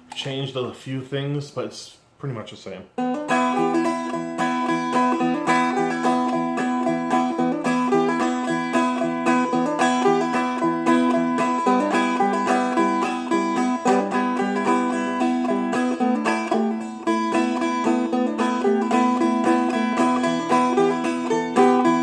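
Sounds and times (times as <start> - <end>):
plucked dulcimer blues tune: 3.0 - 22.0.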